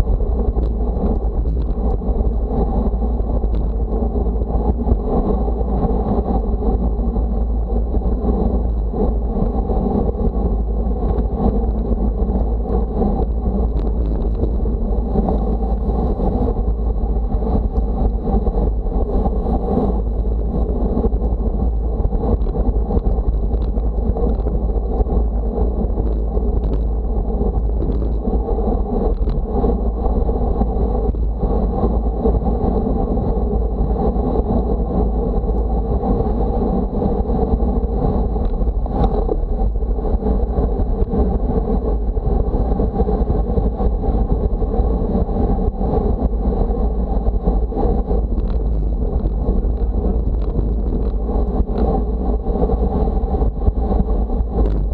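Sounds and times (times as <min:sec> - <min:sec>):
road noise: 0:00.0 - 0:54.9
wind rumble on microphone: 0:00.0 - 0:54.9.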